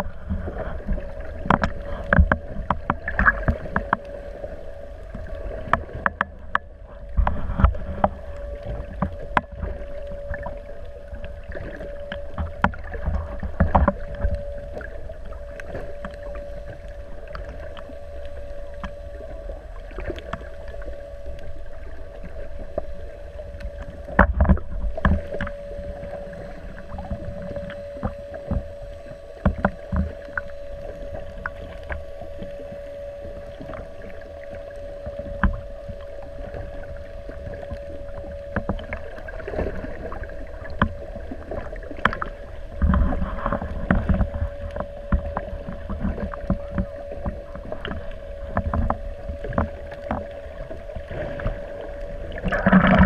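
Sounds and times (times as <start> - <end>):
boat motor hum: 0.0 - 53.0.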